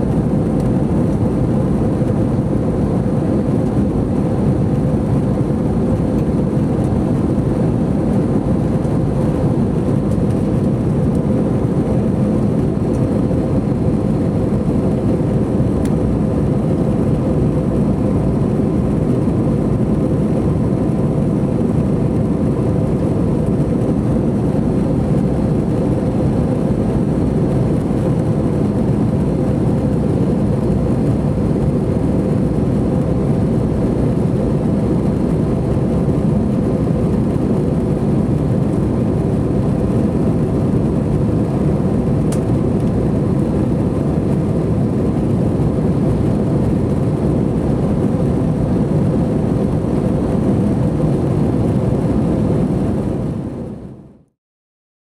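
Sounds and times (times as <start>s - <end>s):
jet engines droning: 0.0s - 54.1s.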